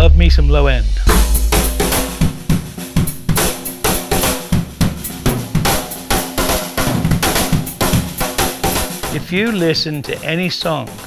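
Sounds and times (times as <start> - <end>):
drum kit playing beat: 0.0 - 11.0.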